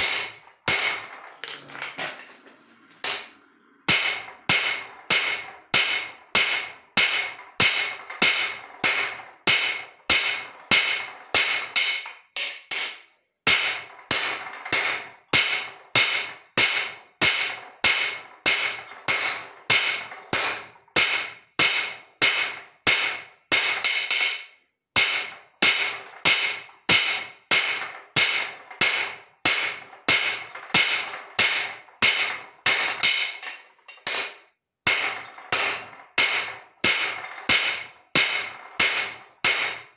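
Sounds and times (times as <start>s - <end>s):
hammer striking steel on anvil: 0.0s - 2.3s, 3.0s - 39.9s.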